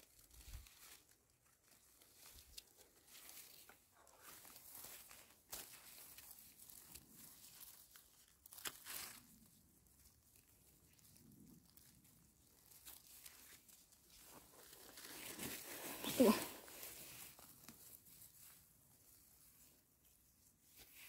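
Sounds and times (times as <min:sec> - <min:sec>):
rustling of forest litter: 0:00.0 - 0:21.0.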